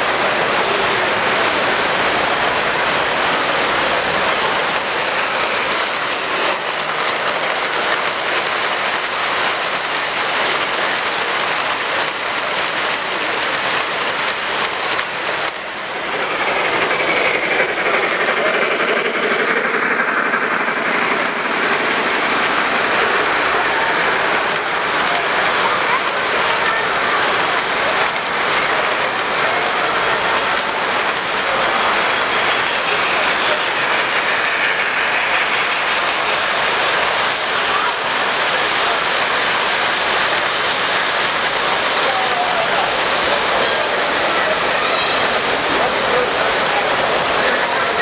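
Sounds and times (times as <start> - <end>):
busy exhibition hall noise: 0.0 - 48.0
model train wheels clicking: 0.1 - 48.0.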